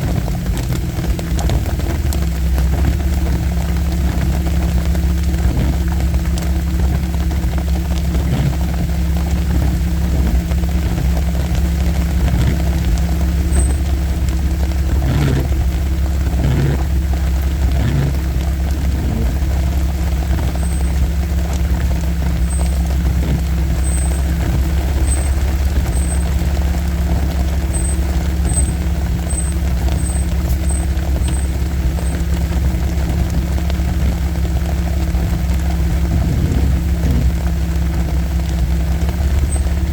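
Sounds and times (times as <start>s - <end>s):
vehicle engine low drone: 0.0s - 39.9s.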